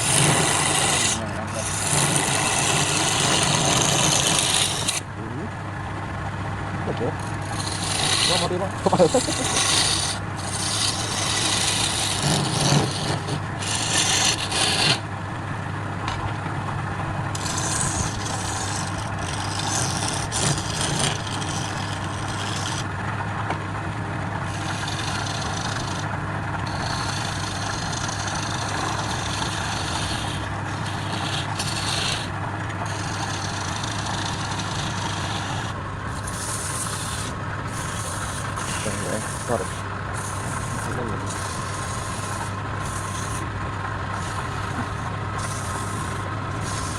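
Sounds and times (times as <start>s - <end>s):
tool scraping spinning wood: 0.0s - 5.2s, 6.9s - 15.3s, 16.0s - 46.9s
wood lathe humming: 0.0s - 5.3s, 6.4s - 46.9s.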